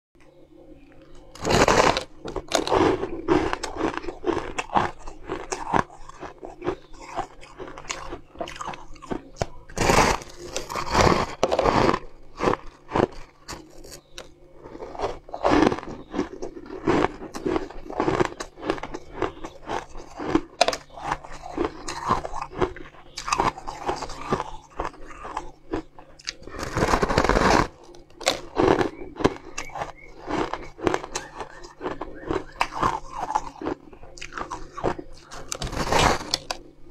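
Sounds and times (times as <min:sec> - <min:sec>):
crunching ice while chewing: 0:01.0 - 0:36.9.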